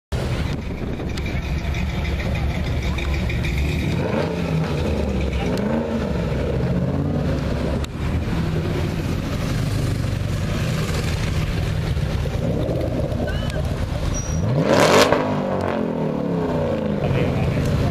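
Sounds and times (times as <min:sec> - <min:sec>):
car engine revving: 0:00.2 - 0:17.9.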